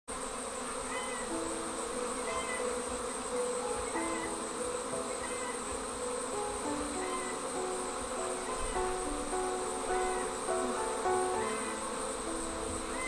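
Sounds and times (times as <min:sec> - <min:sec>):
bee swarm buzzing: 0:00.1 - 0:13.0
faint musical notes: 0:01.0 - 0:13.0.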